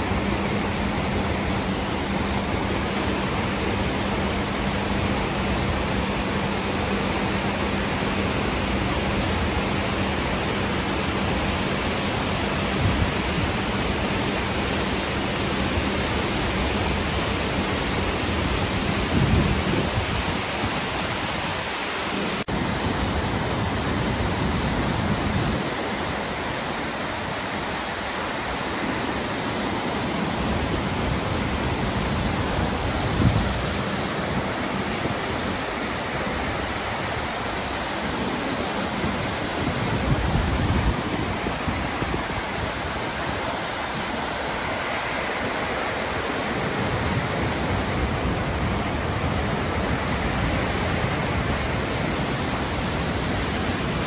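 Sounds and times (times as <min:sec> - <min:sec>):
waterfall and river rushing: 0:00.0 - 0:54.0.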